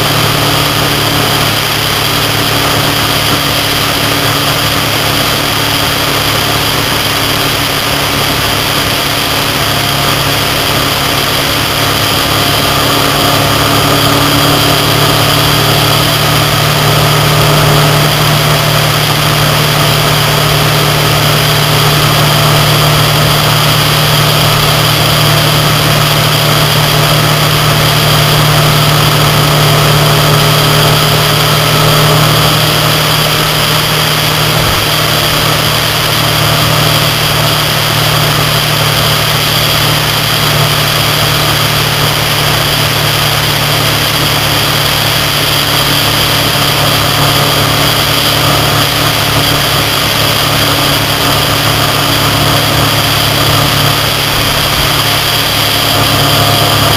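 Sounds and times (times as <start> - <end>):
motorcycle engine cruising: 0.0 - 56.9
wind and road noise: 0.0 - 56.9.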